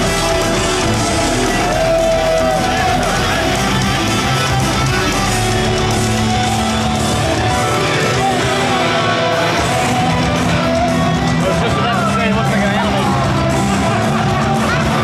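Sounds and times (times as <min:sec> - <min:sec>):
loud rock music with singing: 0:00.0 - 0:15.0.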